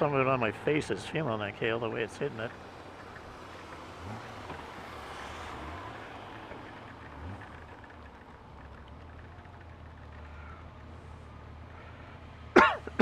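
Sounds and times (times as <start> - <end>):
motorcycle engine droning: 0.0 - 12.9.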